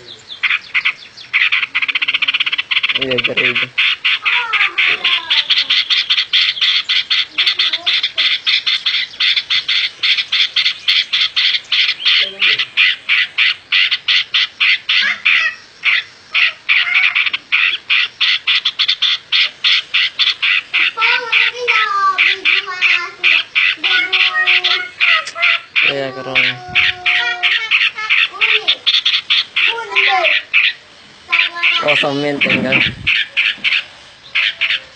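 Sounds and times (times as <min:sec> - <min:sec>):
bird squawking: 0:00.0 - 0:34.9.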